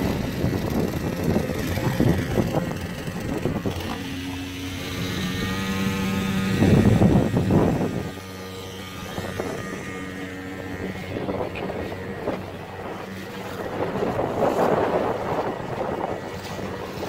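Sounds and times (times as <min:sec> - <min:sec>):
outboard motor running: 0:00.0 - 0:17.0
water noise: 0:00.0 - 0:17.0
wind: 0:00.0 - 0:17.0.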